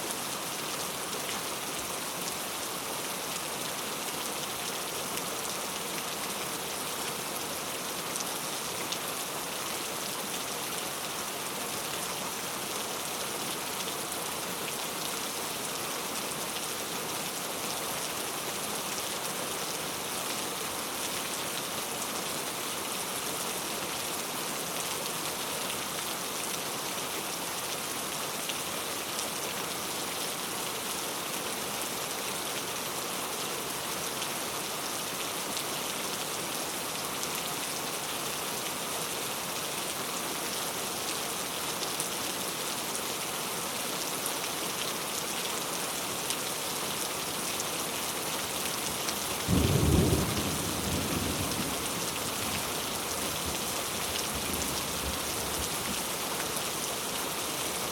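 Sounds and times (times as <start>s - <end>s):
steady rain: 0.0s - 57.9s.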